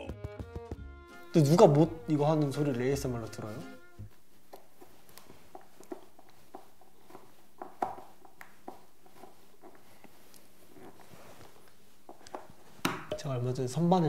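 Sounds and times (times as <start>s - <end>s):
faint room hiss: 1.2s - 14.0s.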